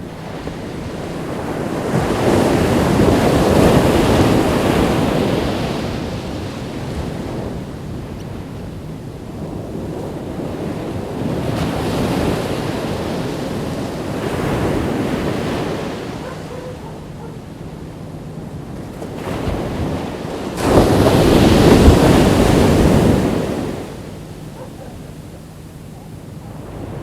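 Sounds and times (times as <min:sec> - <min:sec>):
waves washing on beach: 0:00.0 - 0:27.0.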